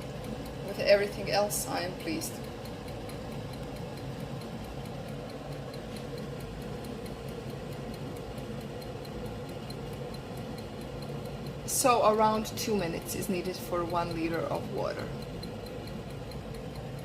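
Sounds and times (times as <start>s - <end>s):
egg timer ticking: 0.0s - 17.0s
electric kettle rumbling: 0.0s - 17.0s.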